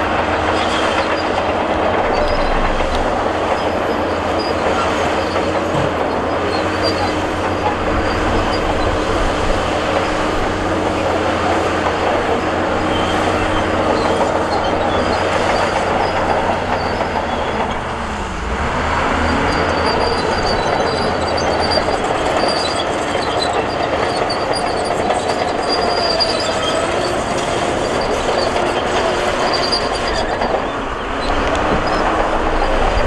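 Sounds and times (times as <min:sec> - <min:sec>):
diesel engine under load: 0:00.0 - 0:33.0
steel tracks clanking and squealing: 0:00.0 - 0:33.0.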